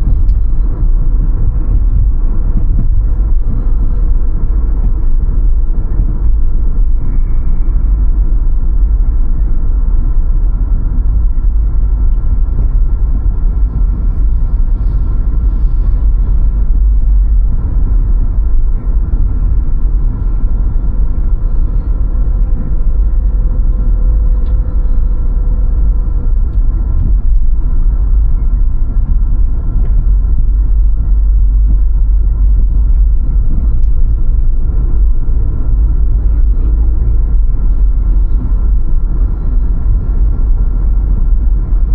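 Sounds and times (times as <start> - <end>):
road and engine noise: 0.0 - 41.9
wind on microphone: 0.0 - 41.9.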